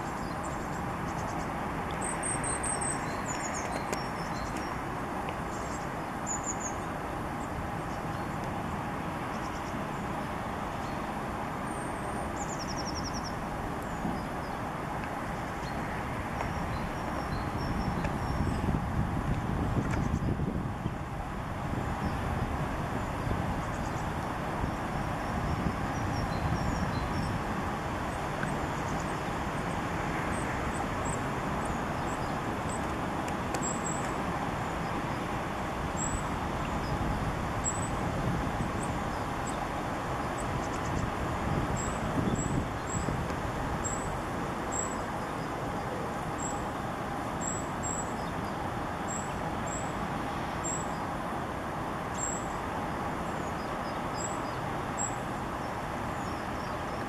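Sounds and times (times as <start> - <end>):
road traffic hum: 0.0 - 57.0.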